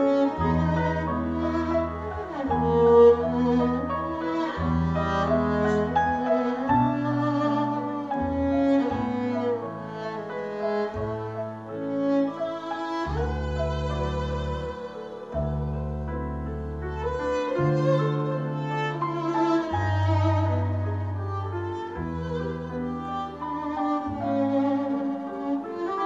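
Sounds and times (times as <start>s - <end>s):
double bass: 0.0s - 26.0s
piano: 0.0s - 26.0s
violin melody: 0.0s - 26.0s.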